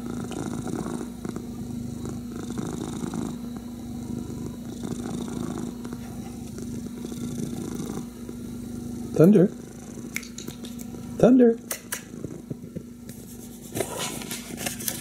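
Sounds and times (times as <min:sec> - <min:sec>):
cat purring: 0:00.0 - 0:14.3.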